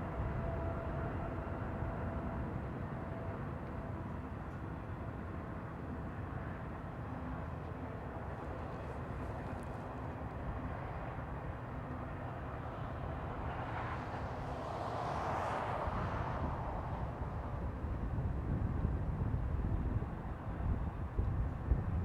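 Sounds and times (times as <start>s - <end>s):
diesel freight train rumbling: 0.0s - 22.0s.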